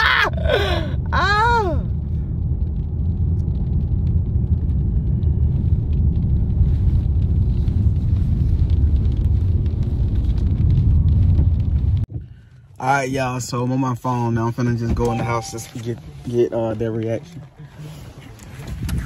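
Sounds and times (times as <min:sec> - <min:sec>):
car interior low rumble: 0:00.0 - 0:19.0.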